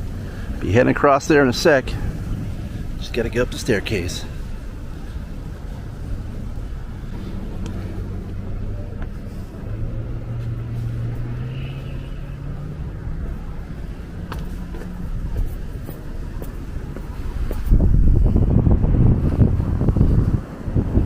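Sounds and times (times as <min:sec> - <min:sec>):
low traffic rumble: 0:00.0 - 0:21.0
vehicle engine humming: 0:00.0 - 0:21.0.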